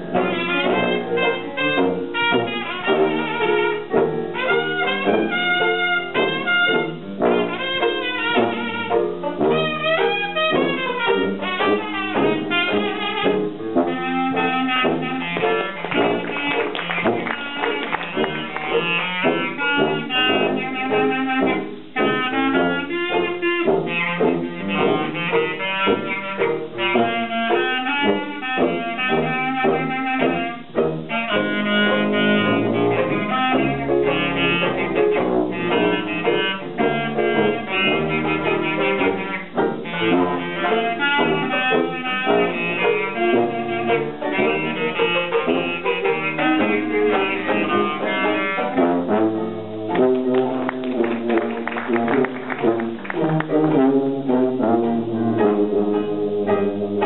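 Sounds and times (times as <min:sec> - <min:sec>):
clarinet lead line: 0:00.0 - 0:57.0
jazz band playing live: 0:00.0 - 0:57.0.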